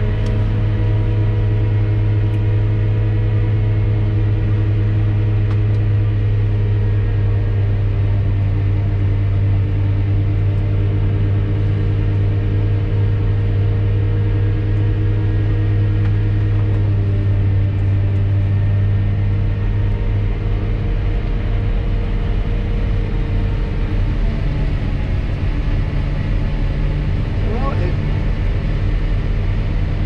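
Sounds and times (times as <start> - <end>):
harvester engine drone: 0.0 - 30.0.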